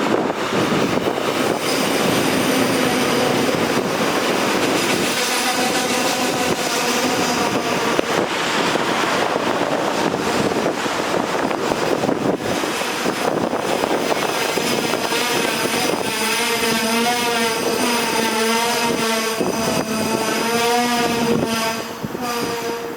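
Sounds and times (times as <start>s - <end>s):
electric train rumbling: 0.0s - 22.9s.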